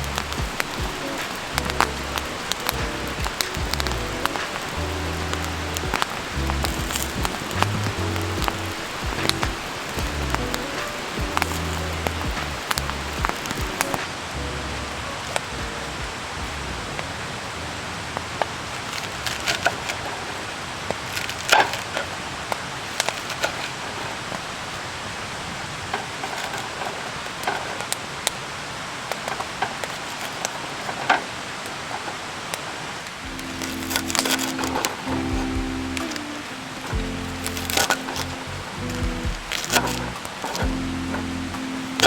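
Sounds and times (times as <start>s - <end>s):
wood campfire crackling: 0.0s - 42.0s.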